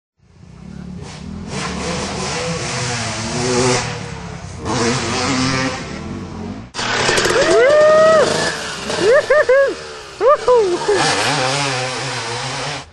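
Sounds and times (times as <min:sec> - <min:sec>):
two-stroke motocross bike revving: 0:00.2 - 0:12.9.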